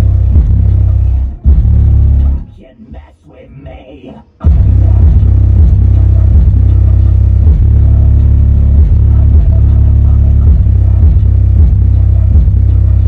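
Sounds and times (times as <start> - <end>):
bass-heavy rap from subwoofers: 0.0 - 13.0.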